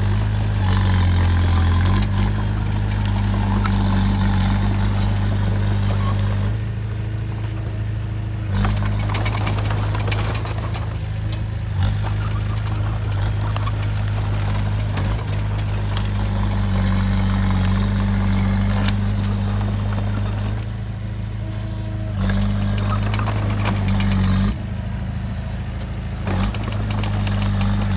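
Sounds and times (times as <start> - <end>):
diesel engine humming: 0.0 - 27.9.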